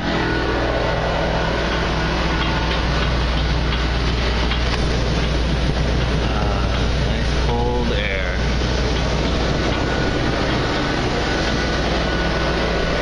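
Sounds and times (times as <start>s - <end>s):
air conditioner compressor hum: 0.0s - 13.0s
fan blowing air: 0.0s - 13.0s.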